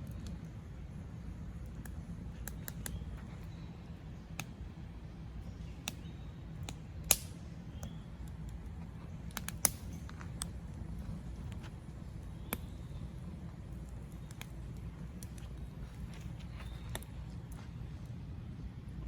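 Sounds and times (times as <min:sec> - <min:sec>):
campfire crackling and popping: 0:00.0 - 0:18.2.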